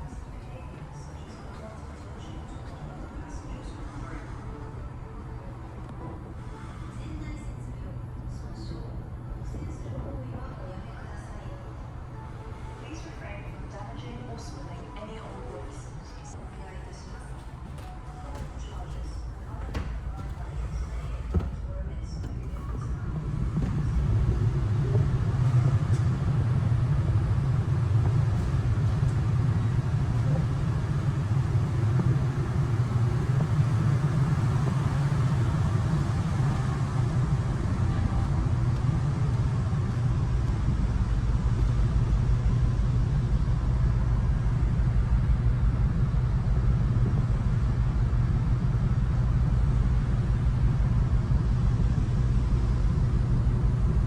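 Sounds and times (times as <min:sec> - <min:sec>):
ship engines droning: 0:00.0 - 0:54.0.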